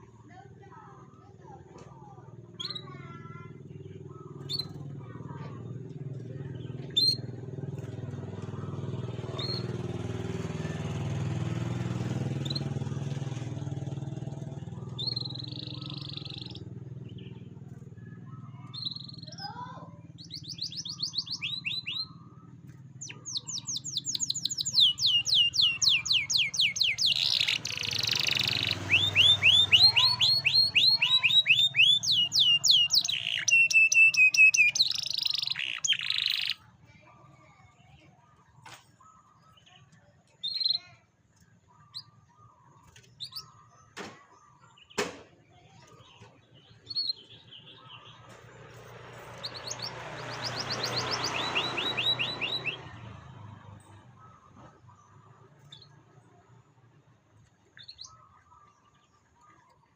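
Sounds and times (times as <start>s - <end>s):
canary singing rapid trills: 2.2s - 45.0s, 45.6s - 59.9s.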